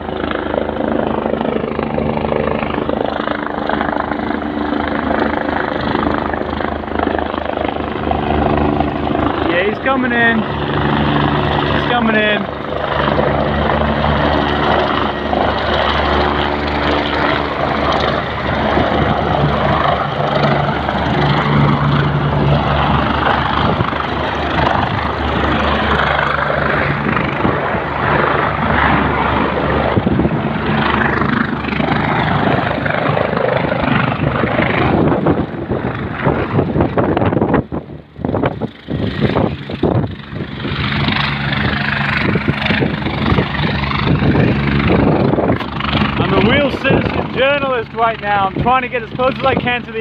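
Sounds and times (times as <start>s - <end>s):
helicopter rotors and engine: 0.0s - 50.0s.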